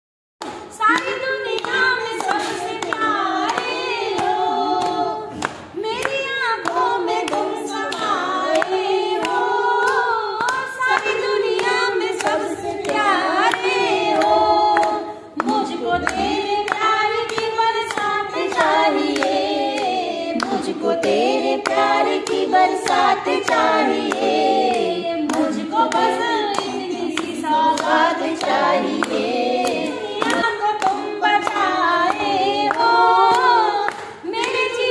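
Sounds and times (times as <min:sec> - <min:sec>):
rhythmic hand-clapping: 0:00.4 - 0:34.9
women singing devotional song: 0:00.4 - 0:34.9.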